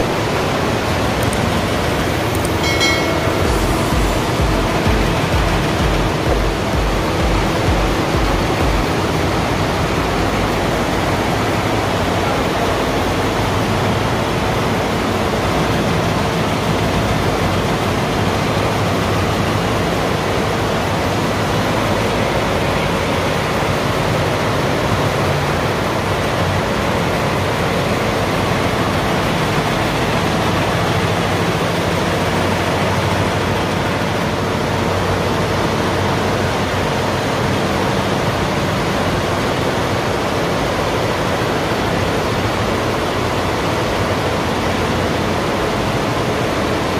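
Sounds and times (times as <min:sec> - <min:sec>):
factory machinery rush: 0:00.0 - 0:46.9.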